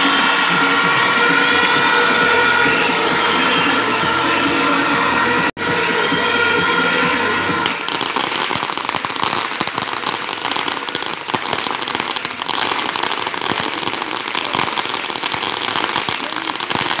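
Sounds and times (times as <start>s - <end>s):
firecrackers crackling: 0.0s - 6.3s, 6.9s - 17.0s.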